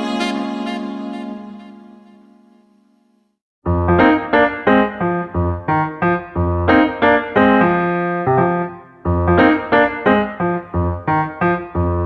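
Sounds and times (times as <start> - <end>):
piano chords background music: 0.0 - 2.7, 3.7 - 12.0.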